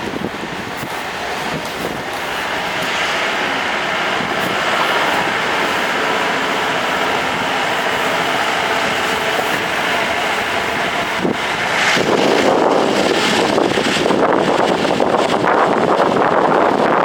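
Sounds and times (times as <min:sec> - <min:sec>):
vehicle engine and road noise: 0:00.0 - 0:17.0
wind on microphone: 0:00.0 - 0:17.0.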